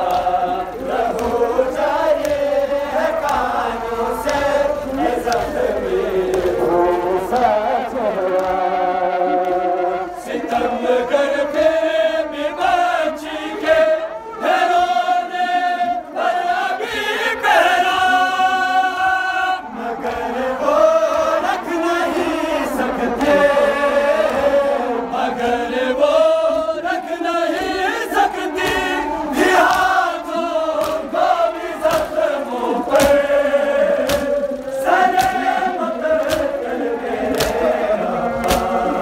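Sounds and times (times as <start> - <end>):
group chanting a lament: 0.0 - 39.0.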